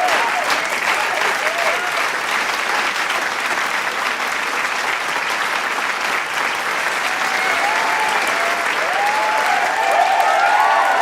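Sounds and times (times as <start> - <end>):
crowd applauding: 0.0 - 11.0
people cheering: 0.0 - 11.0.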